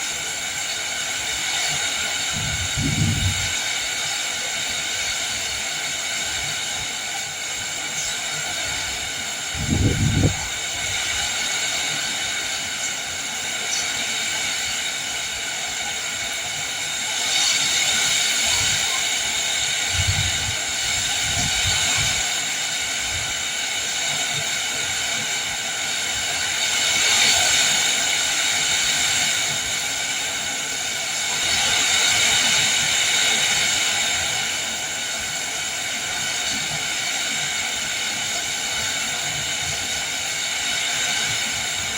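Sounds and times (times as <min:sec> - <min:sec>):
rain hissing in wind: 0:00.0 - 0:41.9.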